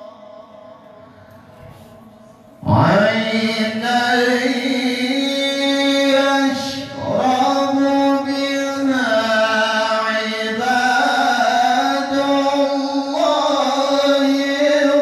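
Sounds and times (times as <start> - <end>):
man chanting into microphone: 2.6 - 15.0.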